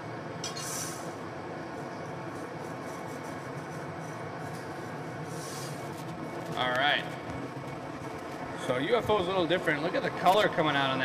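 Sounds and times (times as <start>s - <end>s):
gas burners roaring: 0.0s - 11.0s.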